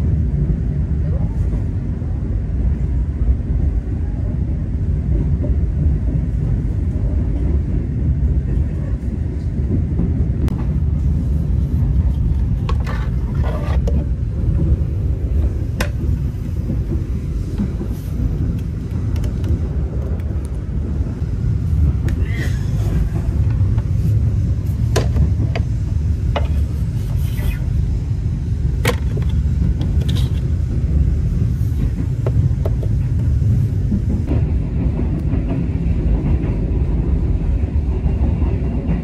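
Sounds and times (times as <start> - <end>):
train rumble inside carriage: 0.0 - 39.0.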